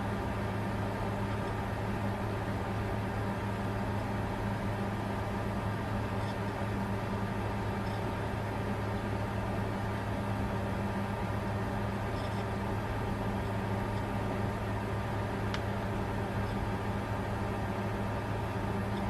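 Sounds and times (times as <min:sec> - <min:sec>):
computer cooling fans whirring: 0:00.0 - 0:19.0.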